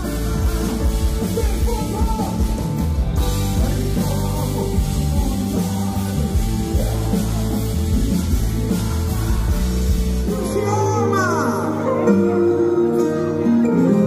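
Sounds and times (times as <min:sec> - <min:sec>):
person singing: 0:00.0 - 0:02.6, 0:03.2 - 0:14.0
rock band playing gospel music: 0:00.0 - 0:14.0.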